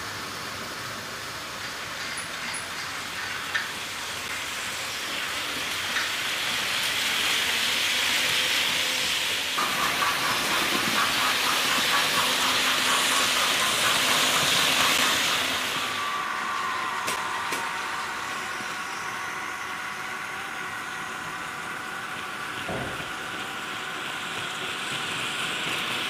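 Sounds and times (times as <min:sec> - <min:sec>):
model train wheels hissing: 0:00.0 - 0:26.0.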